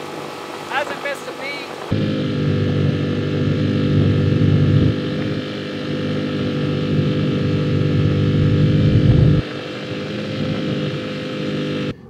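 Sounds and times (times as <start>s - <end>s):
outboard engine running: 0.0s - 12.0s.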